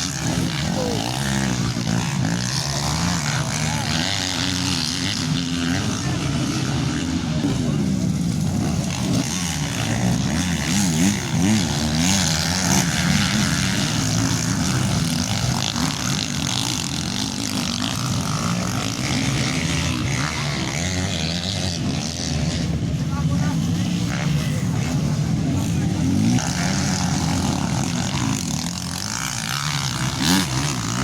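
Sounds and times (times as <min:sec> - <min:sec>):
motocross bike engines racing: 0:00.0 - 0:31.0.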